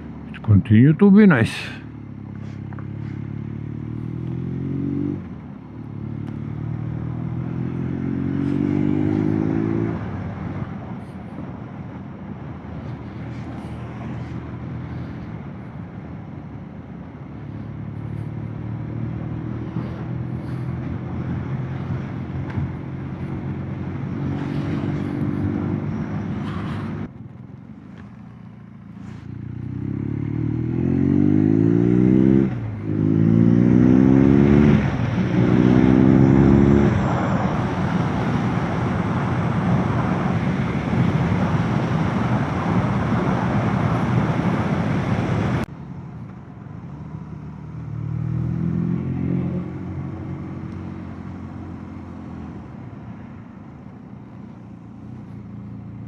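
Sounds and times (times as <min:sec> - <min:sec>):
motorcycle engine: 0:00.0 - 0:11.2, 0:16.2 - 0:56.0.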